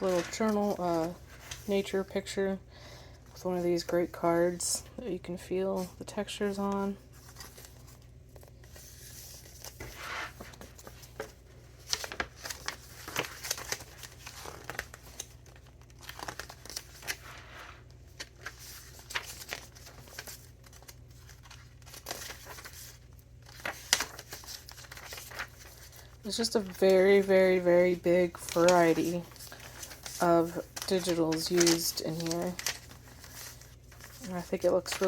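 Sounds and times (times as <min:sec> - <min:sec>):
paper and card rustling: 0:00.0 - 0:35.0.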